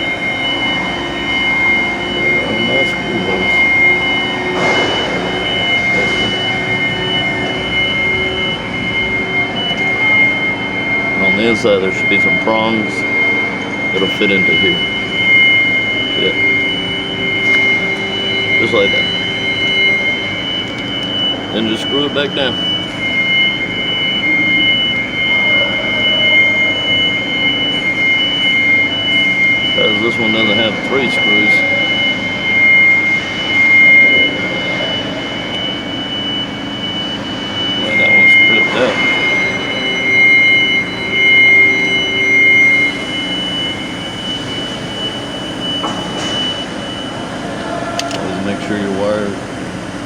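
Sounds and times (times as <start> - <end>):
low hum: 0.0 - 47.6
machine high-pitched whine: 0.0 - 50.0.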